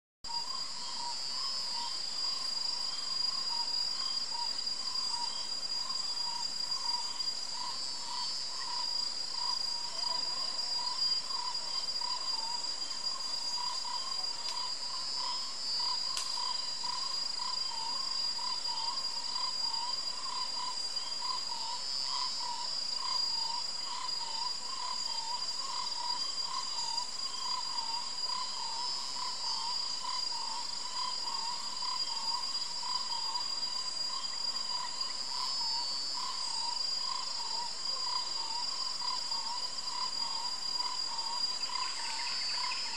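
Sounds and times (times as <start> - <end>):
high insect buzz: 0.3 - 42.9
low pulsing insect trill: 0.3 - 42.9.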